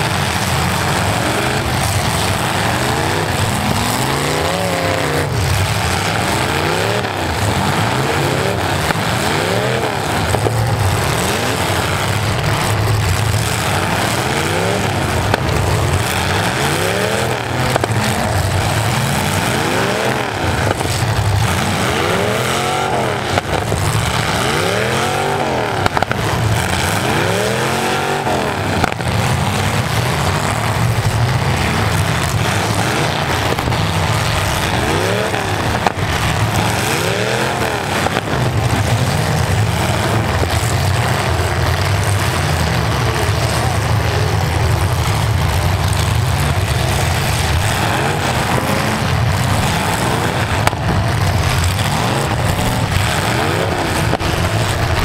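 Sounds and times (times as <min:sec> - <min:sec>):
car engines revving: 0:00.0 - 0:55.0
low engine rumble: 0:00.0 - 0:55.0.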